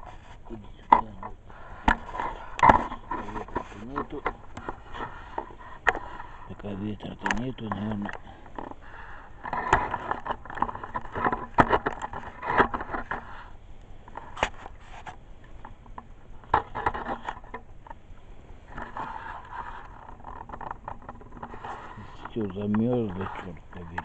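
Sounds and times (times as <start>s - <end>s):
scraping: 0.0s - 24.0s.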